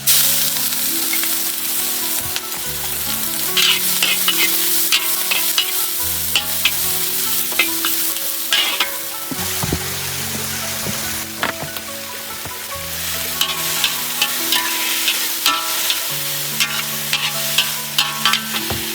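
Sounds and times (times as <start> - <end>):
food sizzling in a pan: 0.0 - 18.9
utensil scraping a pan: 0.0 - 18.9.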